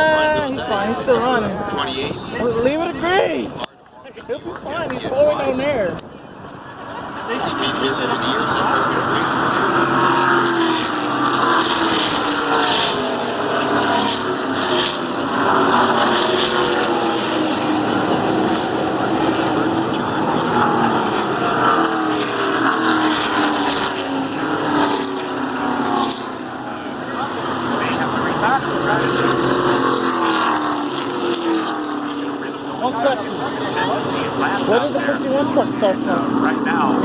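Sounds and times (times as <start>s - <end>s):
race truck engines passing by: 0.0s - 37.0s.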